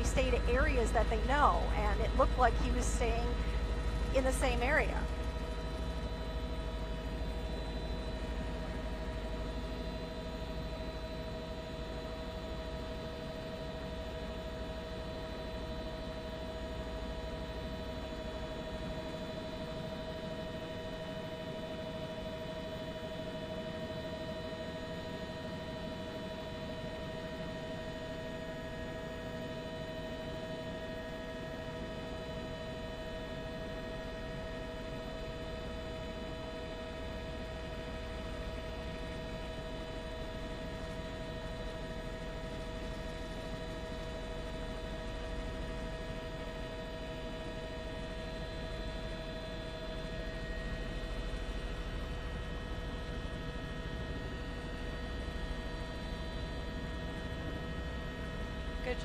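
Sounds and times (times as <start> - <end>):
helicopter cabin hum: 0.0 - 59.0.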